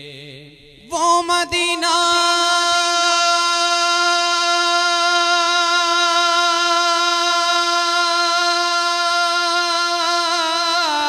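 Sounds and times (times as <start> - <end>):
man singing a long note: 0.0 - 11.0.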